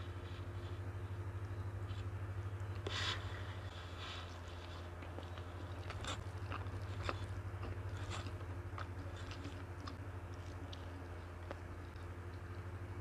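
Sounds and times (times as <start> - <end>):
crunchy chewing: 0.0 - 13.0
low hum: 0.0 - 13.0.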